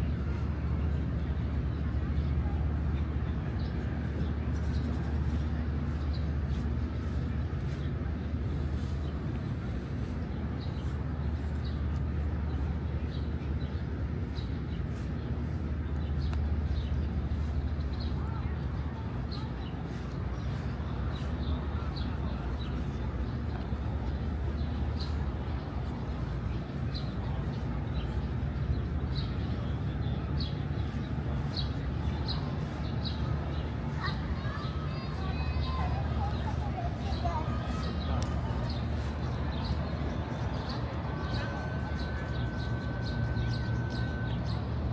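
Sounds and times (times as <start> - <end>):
steady low city rumble: 0.0 - 44.9.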